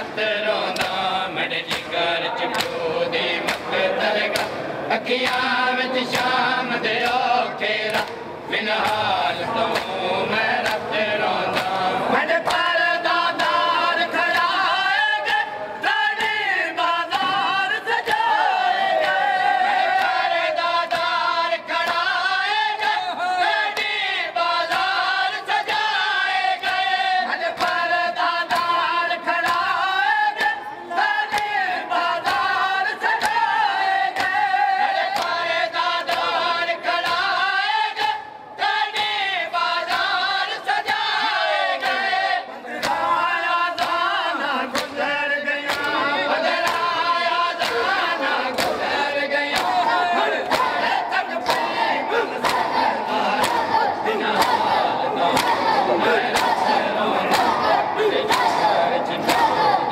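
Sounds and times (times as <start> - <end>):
men chanting in chorus: 0.0 - 59.9.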